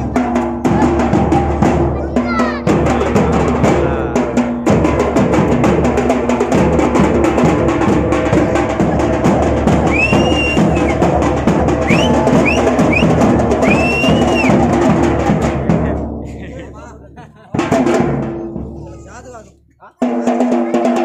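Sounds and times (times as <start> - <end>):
large drums beaten fast: 0.0 - 21.0.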